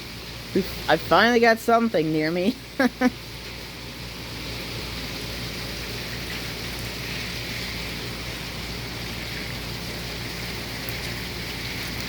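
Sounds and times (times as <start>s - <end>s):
heavy rain falling: 0.1s - 12.0s.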